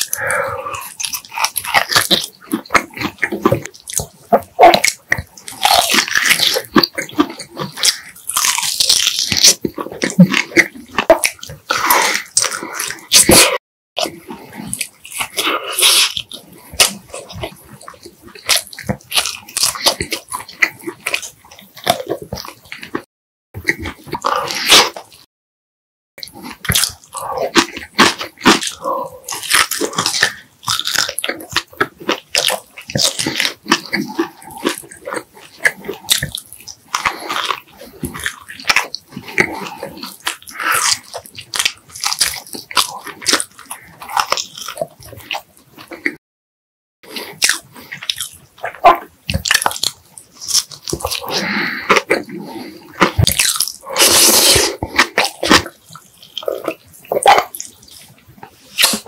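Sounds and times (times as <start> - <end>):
person chewing food: 0.0 - 25.3, 26.2 - 46.2, 47.0 - 59.0.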